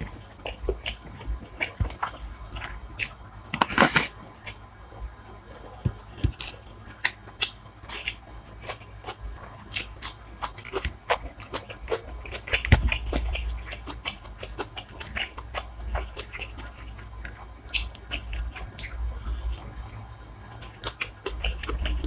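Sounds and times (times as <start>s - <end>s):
person chewing crunchy food: 0.0s - 4.6s, 5.5s - 19.8s, 20.6s - 22.0s.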